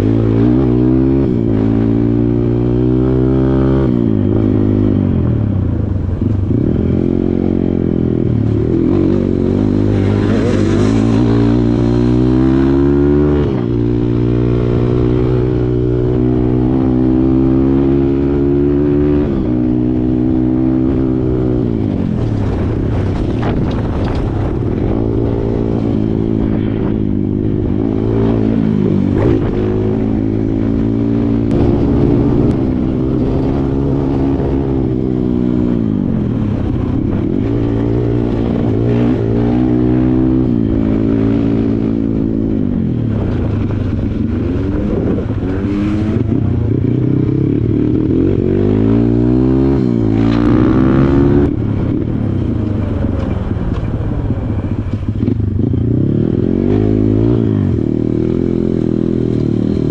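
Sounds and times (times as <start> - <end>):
dirt bike engine revving: 6.0 - 52.2, 54.8 - 59.9.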